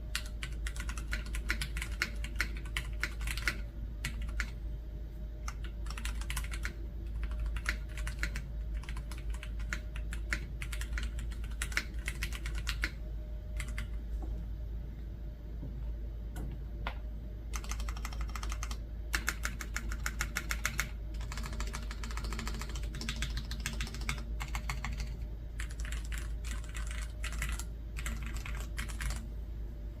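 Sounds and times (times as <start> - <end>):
mechanical keyboard typing: 0.1 - 4.6, 5.4 - 13.0, 13.6 - 13.9, 17.5 - 29.3.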